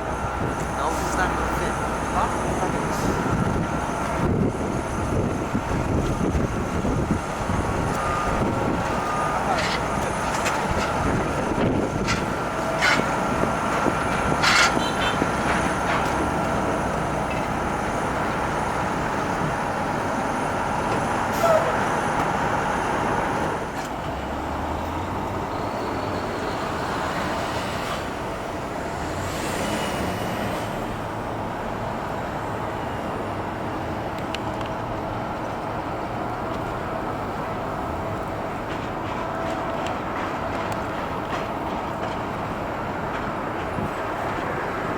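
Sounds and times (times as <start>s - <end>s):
jet engines running with whine: 0.0s - 44.9s.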